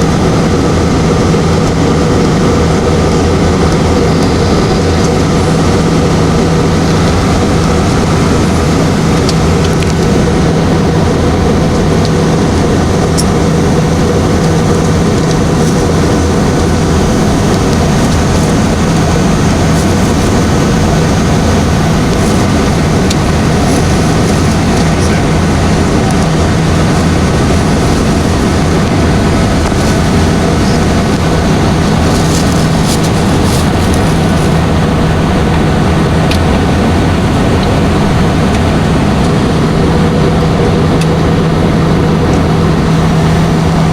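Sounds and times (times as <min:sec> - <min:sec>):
constant low hum: 0:00.0 - 0:43.9
jet engine and airflow rush: 0:00.0 - 0:43.9.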